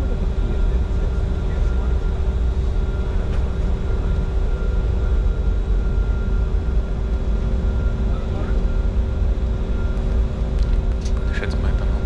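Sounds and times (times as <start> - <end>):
faint steady whining tones: 0.0 - 12.0.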